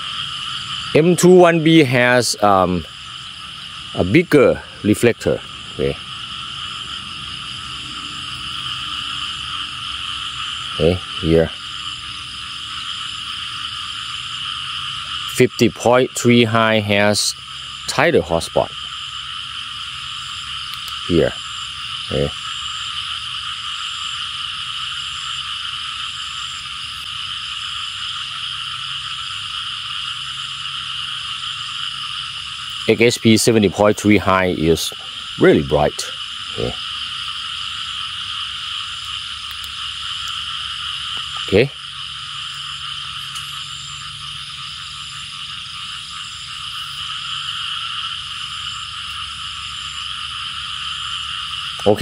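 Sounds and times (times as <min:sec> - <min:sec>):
frogs and insects night chorus: 0:00.0 - 0:52.0.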